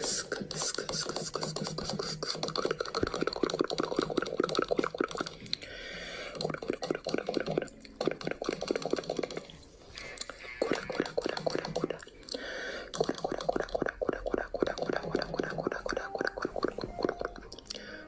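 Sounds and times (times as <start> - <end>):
rapid short clicks and pops: 0.1 - 5.6, 6.3 - 9.6, 10.6 - 12.1, 12.9 - 17.8.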